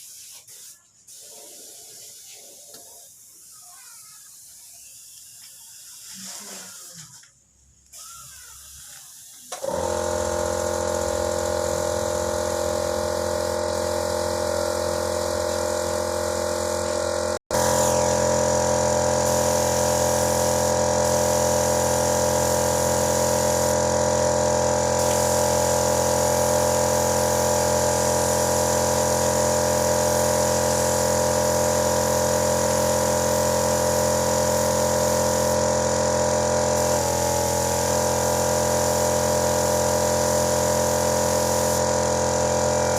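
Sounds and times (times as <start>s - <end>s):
air compressor running: 0.0s - 42.9s.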